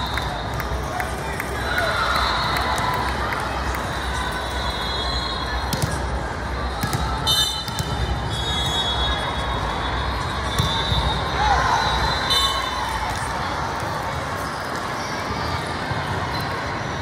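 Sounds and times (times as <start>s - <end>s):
crowd chatter: 0.0s - 17.0s.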